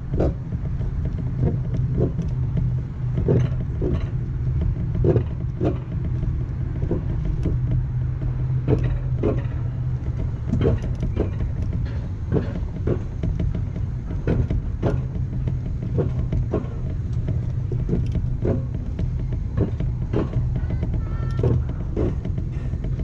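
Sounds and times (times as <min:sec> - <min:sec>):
clacks over track joints: 0:00.0 - 0:23.0
sled wheels rolling rumble: 0:00.0 - 0:23.0.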